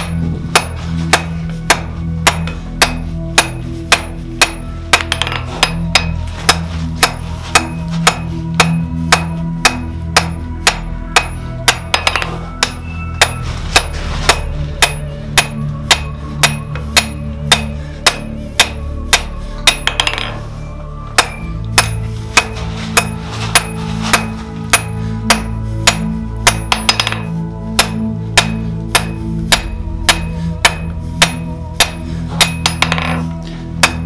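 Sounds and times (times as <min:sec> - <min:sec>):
hammer striking metal on anvil: 0:00.0 - 0:20.5, 0:21.1 - 0:34.0.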